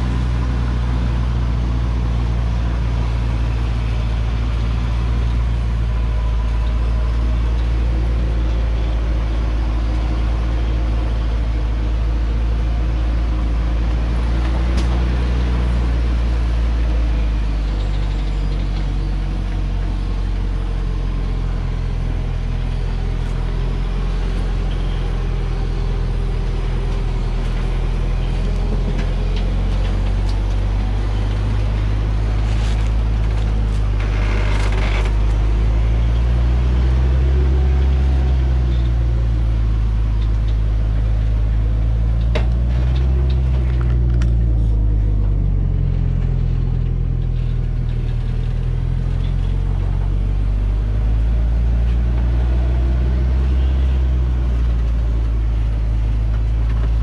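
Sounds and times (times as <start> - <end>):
truck engine running low: 0.0 - 57.0.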